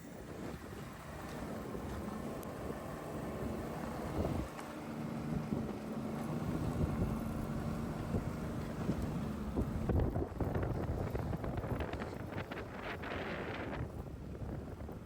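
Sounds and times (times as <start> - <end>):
vehicle engine running: 0.0 - 15.0
wind on microphone: 0.0 - 15.0.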